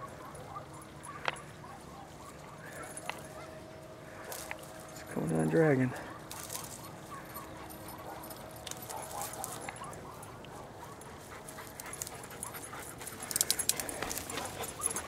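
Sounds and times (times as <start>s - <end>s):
dogs whining softly: 0.0s - 5.2s, 5.8s - 15.0s.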